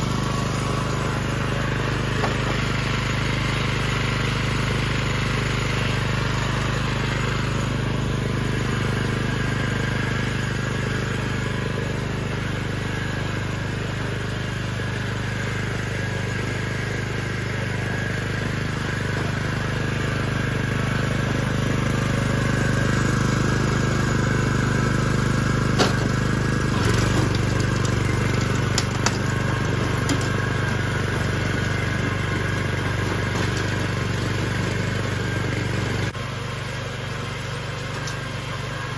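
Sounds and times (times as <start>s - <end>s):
walking tractor engine running: 0.0s - 38.9s.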